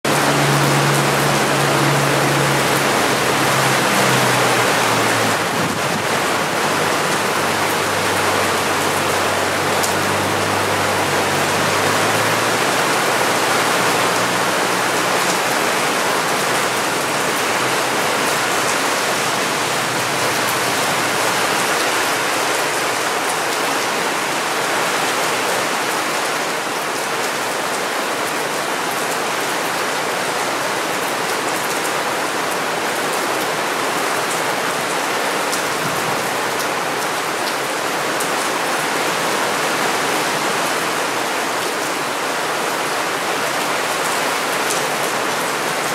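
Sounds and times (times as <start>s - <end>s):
heavy rain on wet paving: 0.0s - 45.9s.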